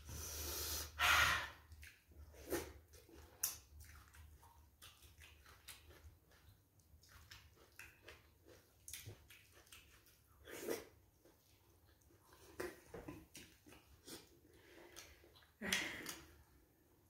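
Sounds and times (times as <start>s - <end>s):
person chewing and lip-smacking: 1.6s - 16.5s.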